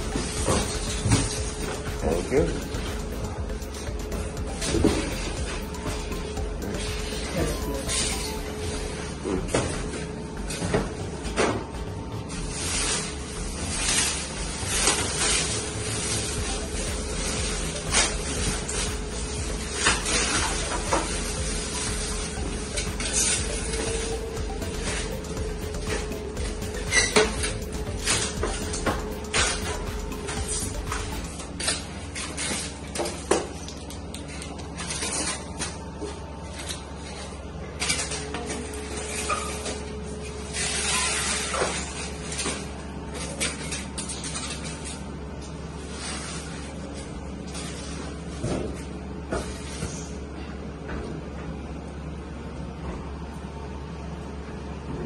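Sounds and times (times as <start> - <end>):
packaging rustling and scraping: 0.0 - 11.1, 11.7 - 50.2.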